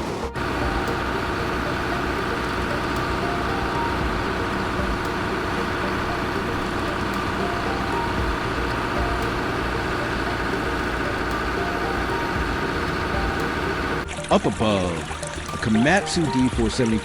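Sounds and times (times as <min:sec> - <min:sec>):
heavy machinery engine rumbling: 0:00.0 - 0:17.0.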